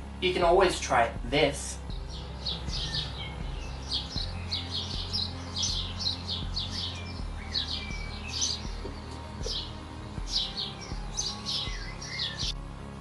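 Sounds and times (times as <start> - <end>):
small birds chirping: 1.4 - 12.6.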